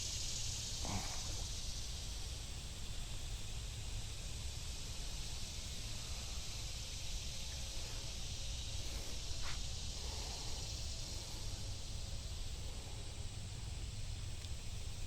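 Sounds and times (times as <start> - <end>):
creek hiss: 0.0 - 15.0.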